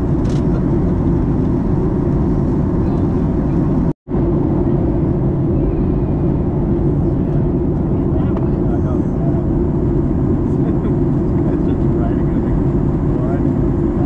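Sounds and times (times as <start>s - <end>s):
airliner cabin engine rumble: 0.0s - 14.0s.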